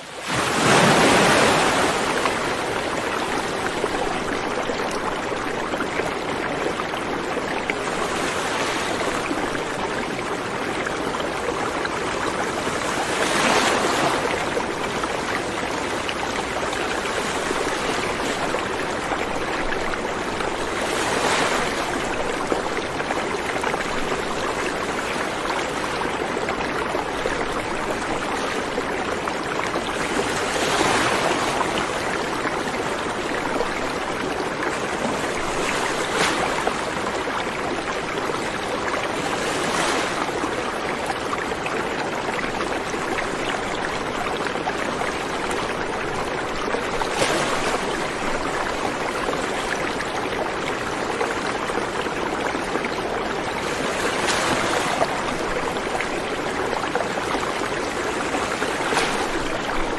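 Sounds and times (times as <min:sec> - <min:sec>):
river flowing over stones: 0:00.0 - 0:59.9
water splashes: 0:00.0 - 0:59.9.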